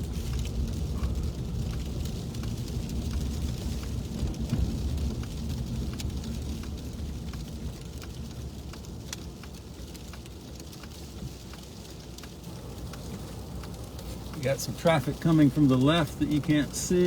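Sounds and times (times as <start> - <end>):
car road rumble: 0.0 - 17.0
sleet ticking on windows: 0.2 - 17.0.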